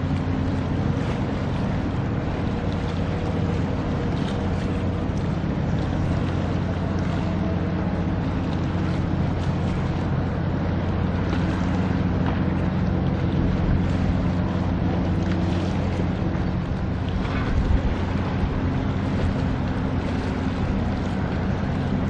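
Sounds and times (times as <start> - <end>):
ferry diesel engines droning: 0.0 - 22.0
wind on microphone: 0.0 - 22.0.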